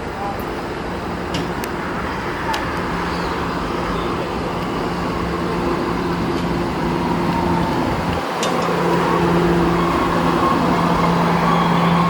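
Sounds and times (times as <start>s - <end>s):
subway train electrical hum: 0.0s - 12.0s.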